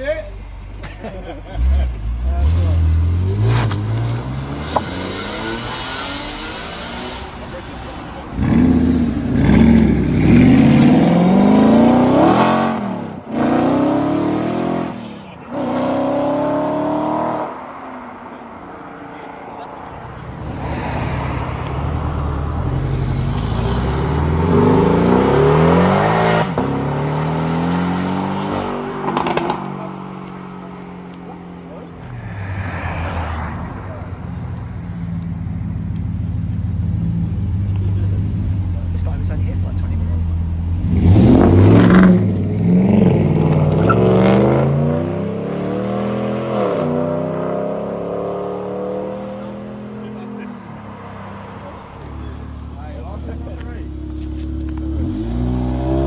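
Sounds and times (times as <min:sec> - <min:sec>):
sports car engine accelerating: 0:01.4 - 0:19.0, 0:19.8 - 0:56.0.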